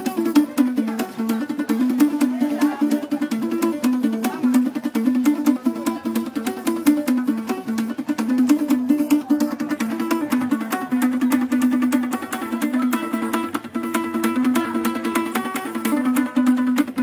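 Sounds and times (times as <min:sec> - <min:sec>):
plucked lute notes: 0:00.0 - 0:17.0.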